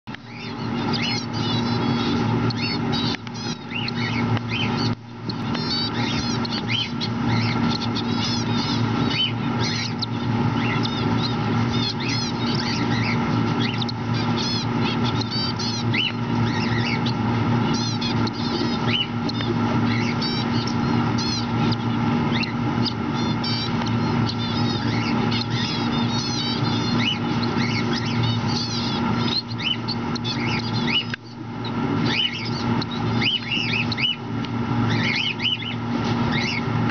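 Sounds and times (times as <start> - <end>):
cockatiels chirping: 0.1 - 36.9
steady low hum: 0.1 - 36.9.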